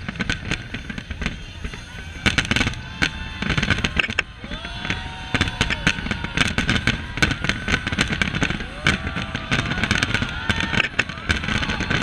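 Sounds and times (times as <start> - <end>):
fireworks bangs and crackling: 0.0 - 12.0
low rumble: 0.0 - 12.0.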